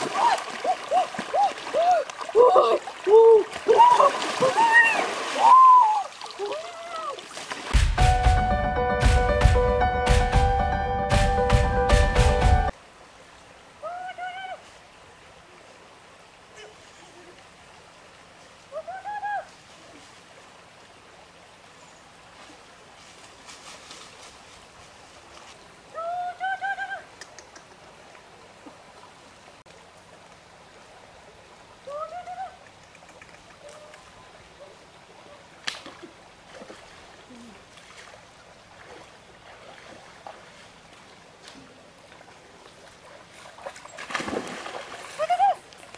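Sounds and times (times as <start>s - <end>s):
flowing water: 0.0s - 8.0s, 12.0s - 45.9s.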